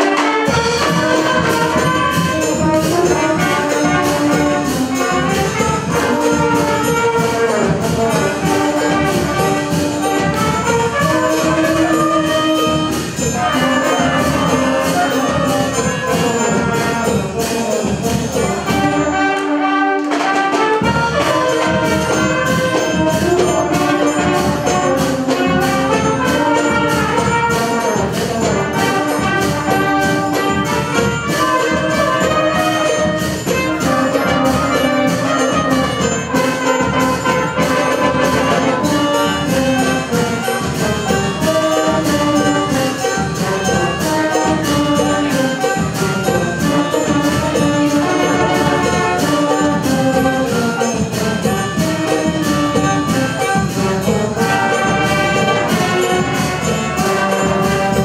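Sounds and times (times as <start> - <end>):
brass band with melodicas: 0.0 - 58.0
drum beat: 0.0 - 58.0.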